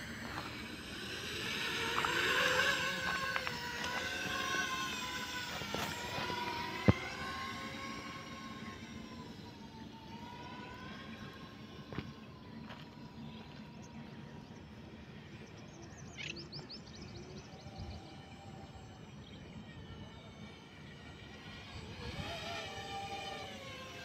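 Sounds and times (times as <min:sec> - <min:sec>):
drone motors humming: 0:00.0 - 0:24.0
outdoor background noise: 0:00.0 - 0:24.0.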